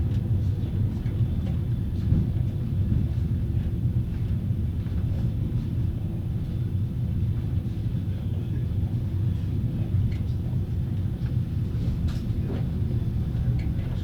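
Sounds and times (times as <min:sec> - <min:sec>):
train car rolling rumble: 0:00.0 - 0:14.0.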